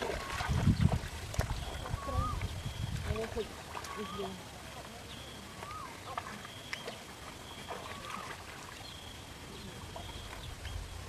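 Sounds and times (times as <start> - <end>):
water splashing by hands: 0.0 - 9.0.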